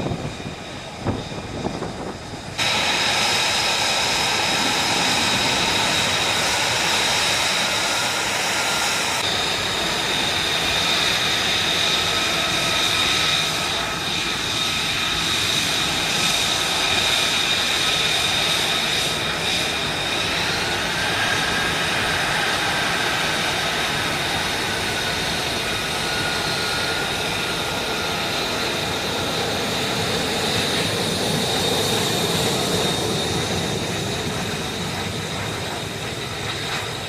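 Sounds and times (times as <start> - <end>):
jet engine running loud: 0.0 - 37.0.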